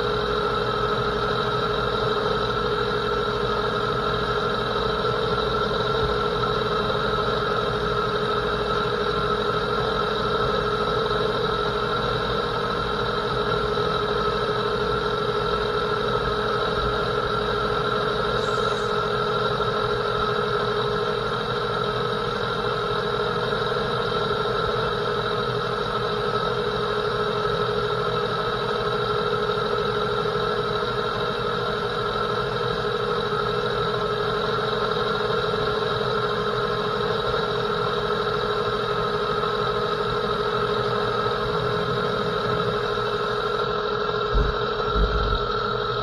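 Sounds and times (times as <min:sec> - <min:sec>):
metal lathe whining: 0:00.0 - 0:46.0.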